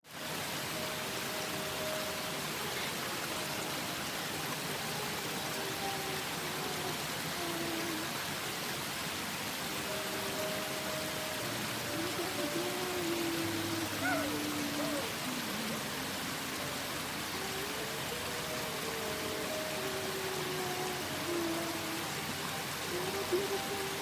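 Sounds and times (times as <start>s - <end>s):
waterfall rushing: 0.1s - 24.0s.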